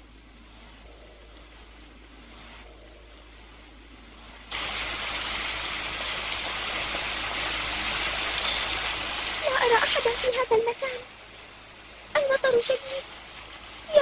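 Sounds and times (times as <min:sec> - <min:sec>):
faint background hiss: 0:00.0 - 0:14.0
rushing falling water: 0:02.3 - 0:14.0.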